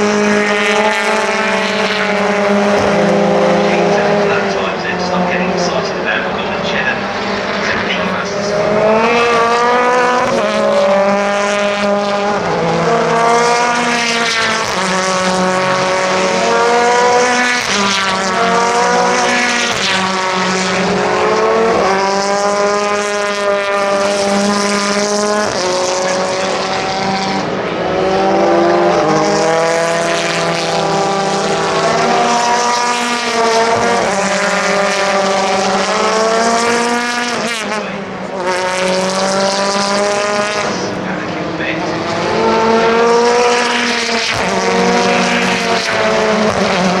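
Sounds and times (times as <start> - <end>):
racing car engines at full throttle: 0.0 - 47.0.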